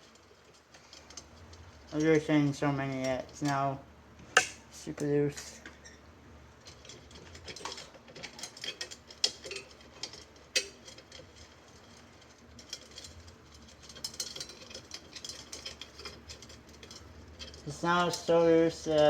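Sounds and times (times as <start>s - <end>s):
loose bicycle spokes rattling: 0.0s - 3.7s, 6.6s - 19.0s.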